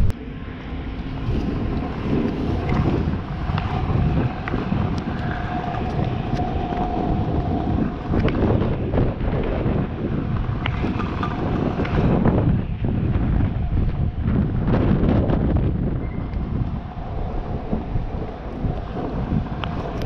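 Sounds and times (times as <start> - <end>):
scooter wheels rolling on asphalt: 0.0 - 20.0
wind buffeting microphone: 0.0 - 20.0.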